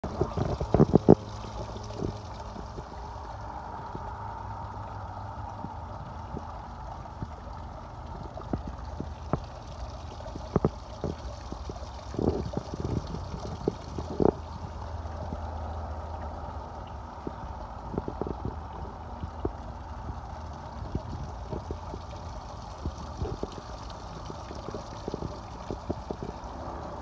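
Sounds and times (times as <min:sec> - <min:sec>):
low hum: 0:00.0 - 0:27.0
water running and trickling: 0:00.0 - 0:27.0.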